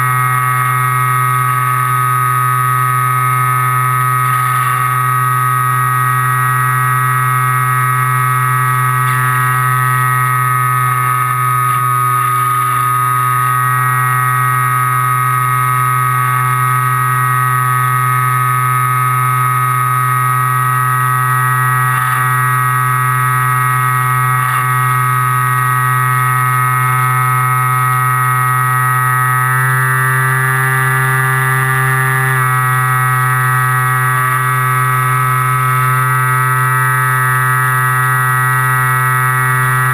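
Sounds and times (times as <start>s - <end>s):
model plane motor and propeller drone: 0.0s - 39.9s.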